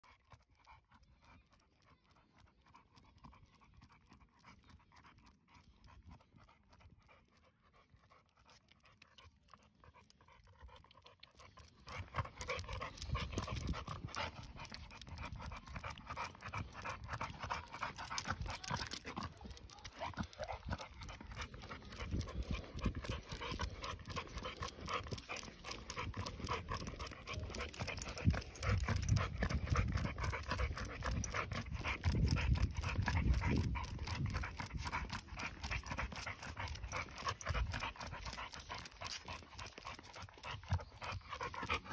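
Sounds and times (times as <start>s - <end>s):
dog panting: 0.0s - 41.9s.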